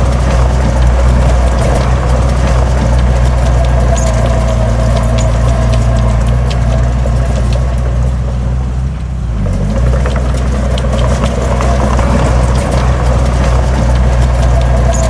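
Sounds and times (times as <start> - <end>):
clicks and rattles: 0.0 - 15.0
heavy diesel engine running: 0.0 - 15.0.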